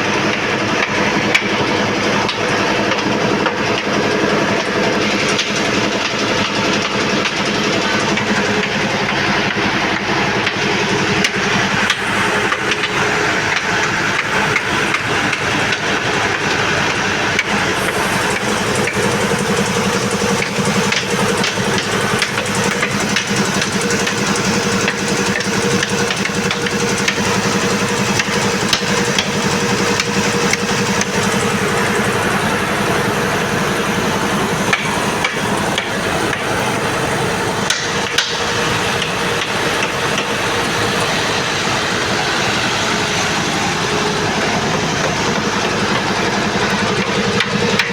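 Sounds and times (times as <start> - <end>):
air compressor clattering: 0.0 - 47.9.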